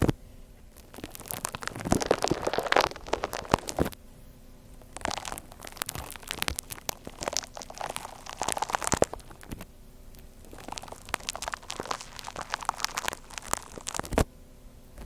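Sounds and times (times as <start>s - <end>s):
slime crunching and crackling: 0.0s - 4.0s, 4.8s - 14.3s.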